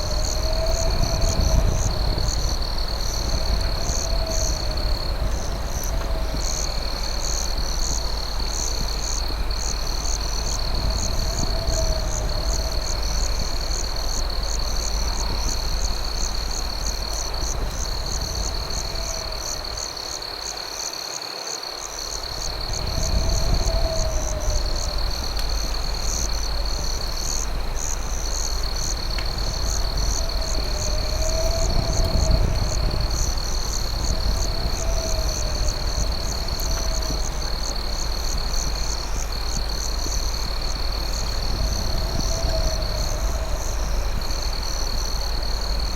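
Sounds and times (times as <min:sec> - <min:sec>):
low rumble: 0:00.0 - 0:20.1, 0:22.4 - 0:45.9
lower warbling insect call: 0:00.0 - 0:20.9, 0:21.8 - 0:45.9
crickets trilling: 0:00.0 - 0:45.9.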